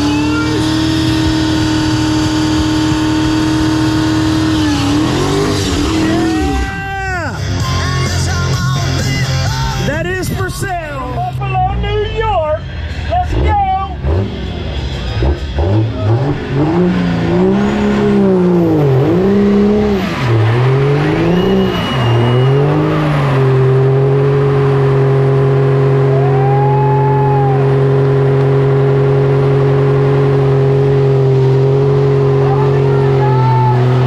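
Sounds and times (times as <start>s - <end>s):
tires spinning: 0.0s - 7.4s, 12.0s - 34.0s
pickup engine revving: 0.0s - 34.0s.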